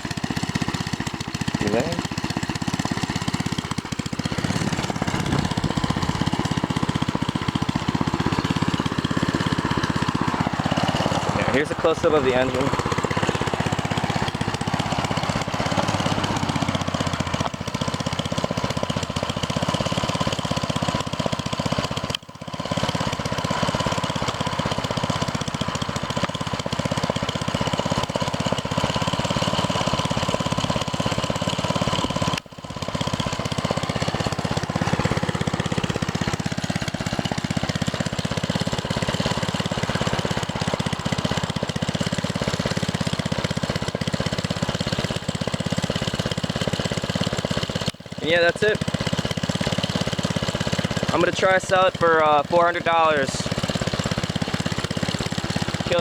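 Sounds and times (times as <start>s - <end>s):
small engine idling: 0.0s - 56.0s.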